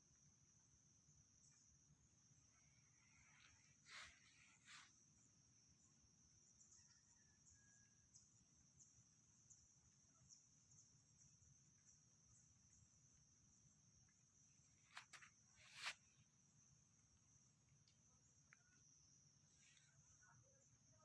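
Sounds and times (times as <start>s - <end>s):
insect chorus pulsing: 0.1s - 21.0s.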